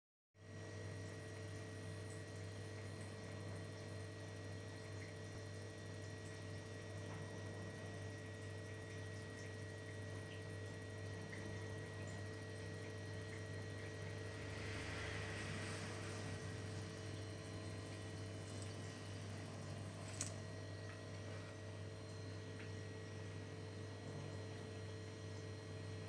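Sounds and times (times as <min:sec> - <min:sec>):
low electrical hum: 0:00.4 - 0:26.0.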